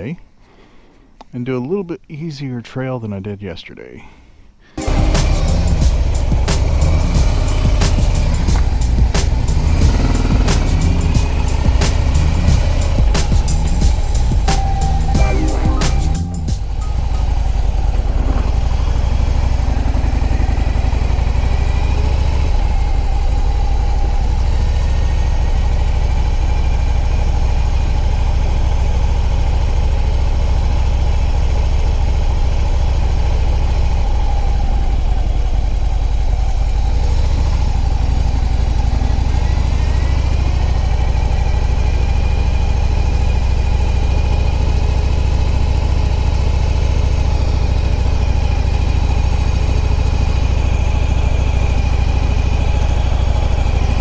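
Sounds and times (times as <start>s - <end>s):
motorcycle engine running: 4.8s - 54.0s.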